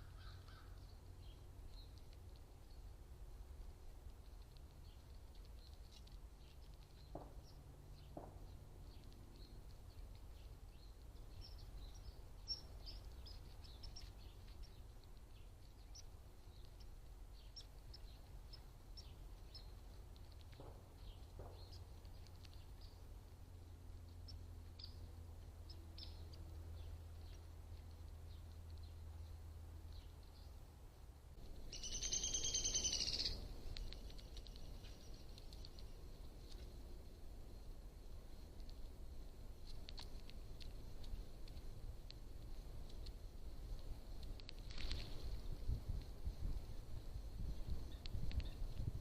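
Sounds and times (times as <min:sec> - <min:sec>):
low background rumble: 0:00.0 - 0:49.0
small birds chirping: 0:00.0 - 0:49.0.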